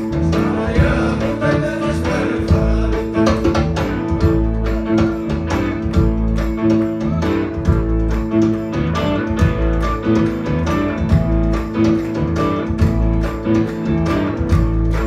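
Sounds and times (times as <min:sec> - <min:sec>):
bass guitar: 0:00.0 - 0:15.0
electric guitar: 0:00.0 - 0:15.0
percussion beat: 0:00.0 - 0:15.0.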